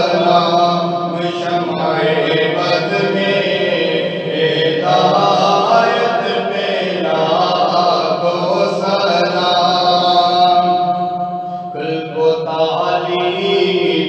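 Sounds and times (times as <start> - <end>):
man singing: 0.0 - 11.0, 11.6 - 14.0
low humming vocal drone: 0.0 - 14.0.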